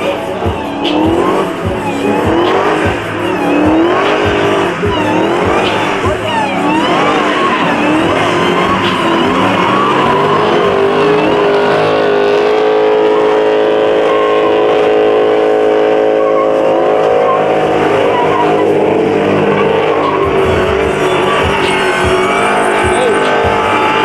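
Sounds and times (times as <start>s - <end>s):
heavy tyre noise: 0.0s - 24.0s
muscle car engine at high revs: 0.0s - 24.0s.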